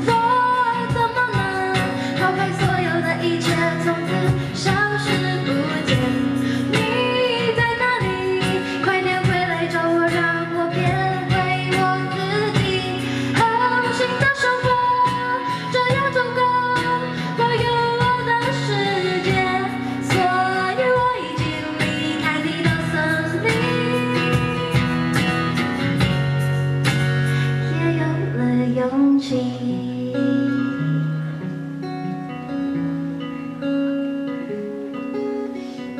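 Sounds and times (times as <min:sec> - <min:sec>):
woman singing: 0:00.0 - 0:31.5
guitar: 0:00.0 - 0:35.9.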